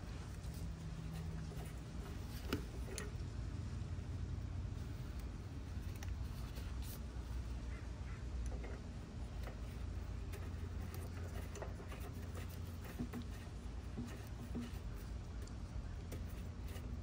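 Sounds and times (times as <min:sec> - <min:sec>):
dipstick handling sounds: 0:00.0 - 0:03.3, 0:04.8 - 0:07.6, 0:08.3 - 0:17.0
low steady rumble: 0:00.0 - 0:17.0.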